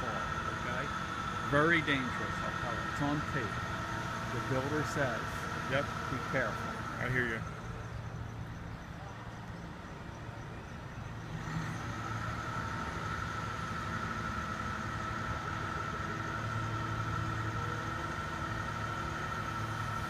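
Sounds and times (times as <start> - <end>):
crane engine running: 0.0 - 20.0
steady high whine: 0.0 - 20.0.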